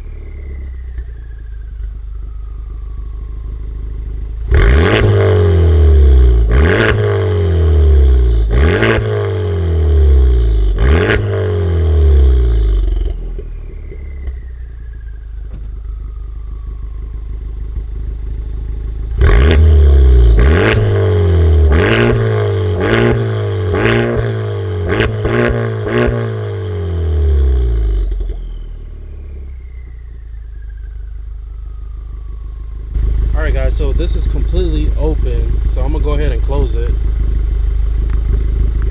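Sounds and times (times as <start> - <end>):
car engine idling: 0.0 - 38.9
car engine revving: 0.0 - 38.9.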